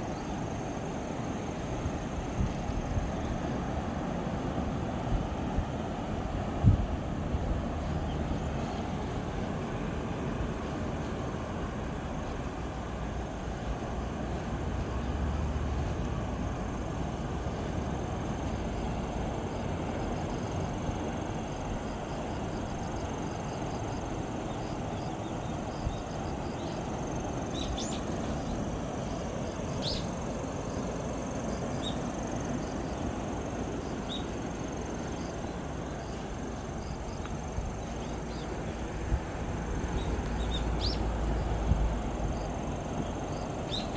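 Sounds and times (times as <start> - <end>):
high insect trill: 0.0 - 43.9
surf rushing: 0.0 - 43.9
wind: 0.0 - 43.9.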